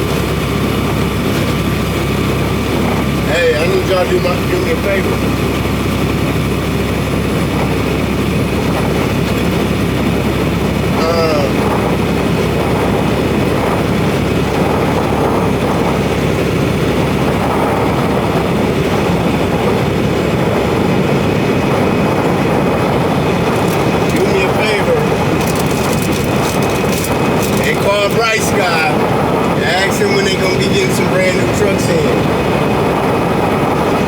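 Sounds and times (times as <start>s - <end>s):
diesel truck engine drone: 0.0s - 34.0s
road noise: 0.0s - 34.0s.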